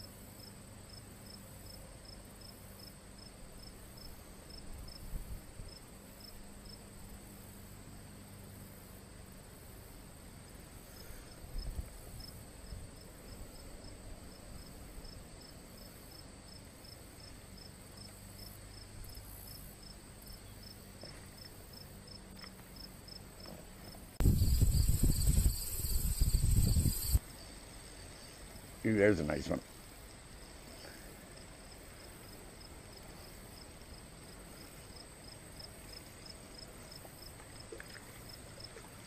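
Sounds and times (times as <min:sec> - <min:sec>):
insect chirping: 0:00.0 - 0:23.5, 0:24.2 - 0:39.0.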